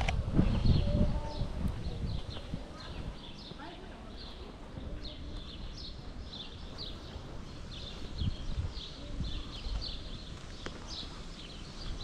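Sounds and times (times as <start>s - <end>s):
small birds chirping: 0.4s - 12.0s.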